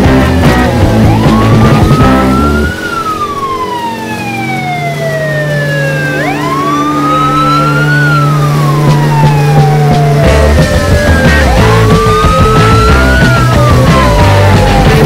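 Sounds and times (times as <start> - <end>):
wailing siren: 0.0 - 15.0.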